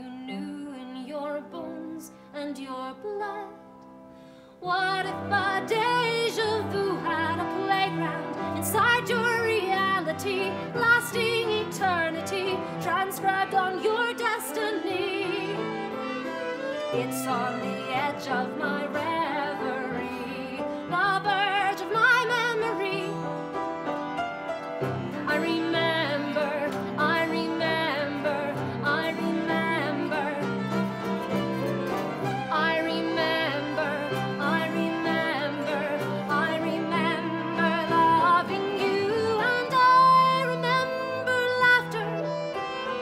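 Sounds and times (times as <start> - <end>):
acoustic guitar: 3.5 - 43.0
violin melody with vibrato: 4.7 - 43.0
upright piano: 4.8 - 43.0.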